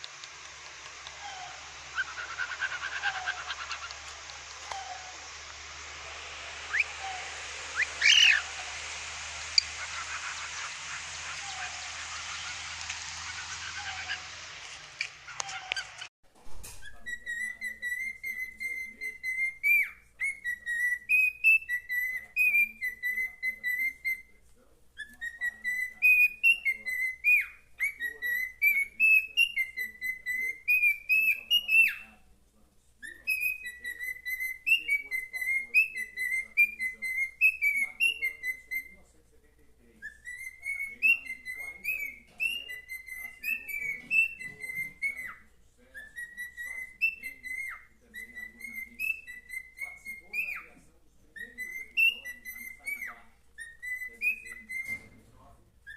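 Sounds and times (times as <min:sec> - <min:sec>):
cockatiel whistling a tune: 0:01.0 - 0:14.3, 0:16.8 - 0:24.4, 0:25.0 - 0:32.1, 0:33.0 - 0:39.1, 0:40.0 - 0:55.9.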